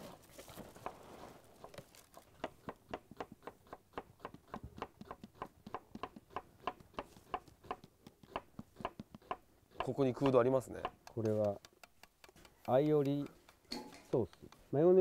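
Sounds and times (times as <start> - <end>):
knife chopping on wooden board: 2.4 - 14.6.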